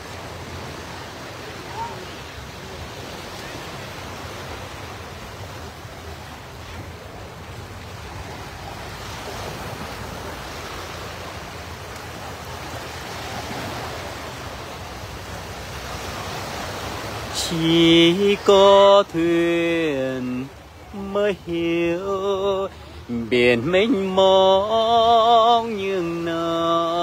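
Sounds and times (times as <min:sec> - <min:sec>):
waves washing up beach: 0:00.0 - 0:27.0.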